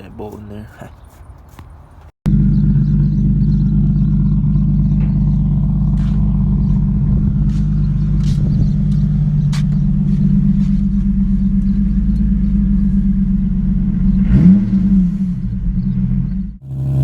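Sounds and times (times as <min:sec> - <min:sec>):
car engine idling: 0:02.3 - 0:17.0.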